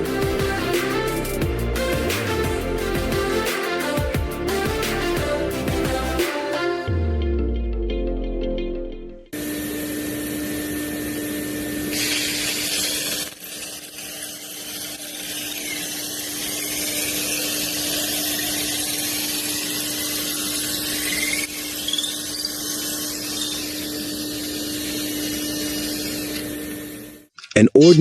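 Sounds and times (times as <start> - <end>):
power tool cutting wood: 0.0 - 6.6, 9.4 - 27.1.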